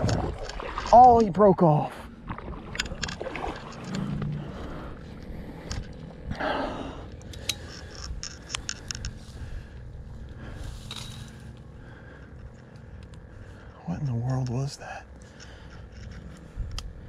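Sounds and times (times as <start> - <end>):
wind rumbling on microphone: 0.0 - 1.4, 2.0 - 13.6, 15.5 - 17.0
fishing line and reeds rustling: 0.0 - 6.4, 7.0 - 17.0.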